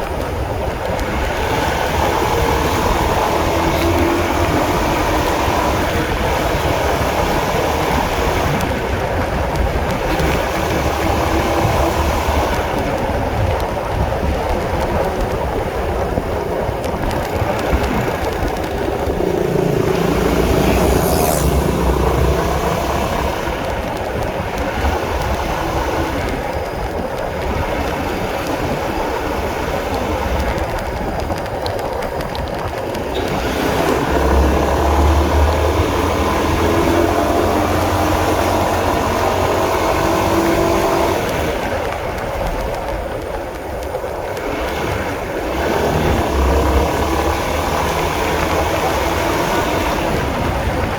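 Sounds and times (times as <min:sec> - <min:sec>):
road and wind noise: 0:00.0 - 0:50.9
motorcycle engine revving: 0:00.6 - 0:26.6, 0:27.5 - 0:41.8, 0:44.3 - 0:50.9.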